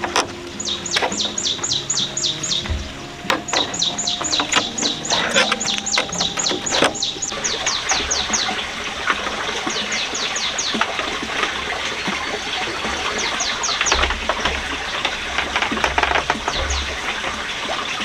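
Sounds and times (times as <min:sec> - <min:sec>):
bird chirping: 0:00.0 - 0:18.0
running water: 0:00.0 - 0:18.0.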